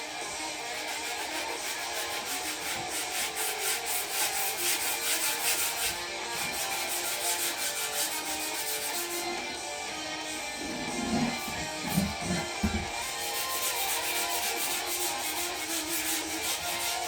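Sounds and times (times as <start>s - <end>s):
sandpaper rubbing on metal frame: 0.6s - 9.5s, 10.6s - 17.0s.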